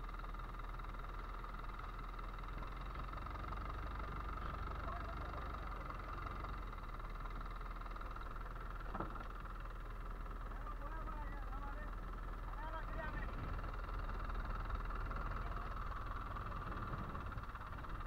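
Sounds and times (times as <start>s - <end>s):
boat engine idling: 0.0s - 18.0s.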